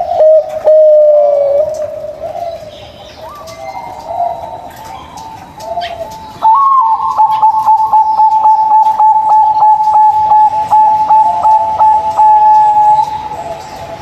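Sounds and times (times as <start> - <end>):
doves cooing: 0.0 - 14.0.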